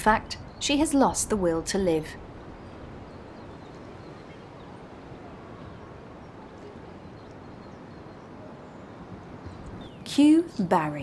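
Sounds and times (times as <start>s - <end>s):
wind blowing on microphone: 0.0s - 10.6s.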